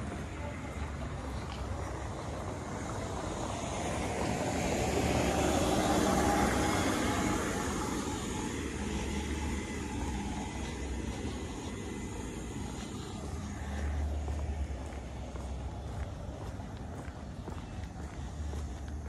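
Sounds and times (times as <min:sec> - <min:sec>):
golf cart driving past: 0:00.0 - 0:18.8.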